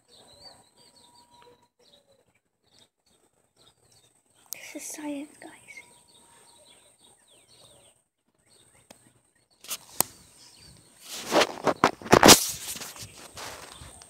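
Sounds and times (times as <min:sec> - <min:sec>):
faint bird chirps: 0:00.0 - 0:12.2.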